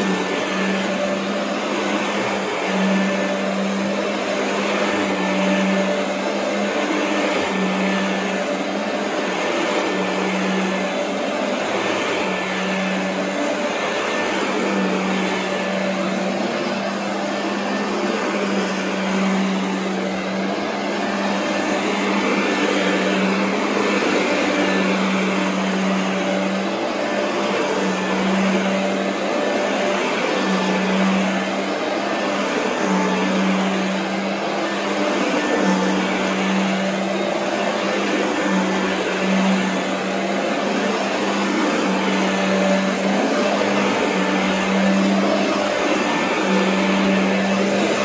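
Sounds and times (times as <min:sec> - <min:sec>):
vacuum cleaner running on carpet: 0:00.0 - 0:48.0.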